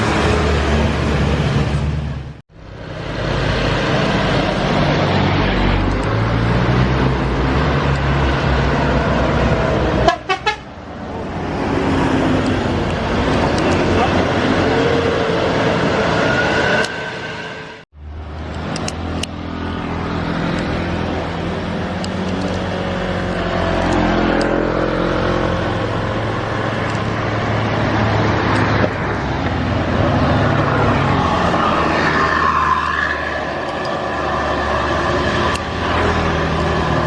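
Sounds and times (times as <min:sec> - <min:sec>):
diesel bus engine under load: 0:00.0 - 0:37.0.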